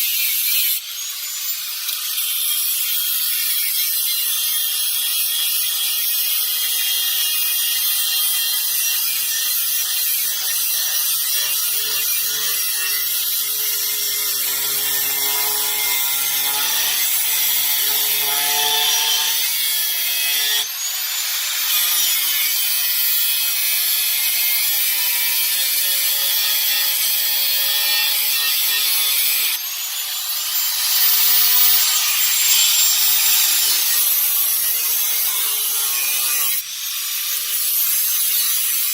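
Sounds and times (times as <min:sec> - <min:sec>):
power tool cutting sheet metal: 0:00.0 - 0:38.9.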